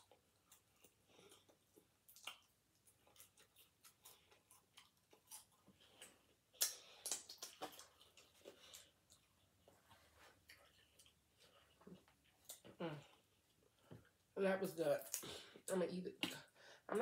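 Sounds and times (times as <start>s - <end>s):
person chewing food: 0.0s - 14.4s.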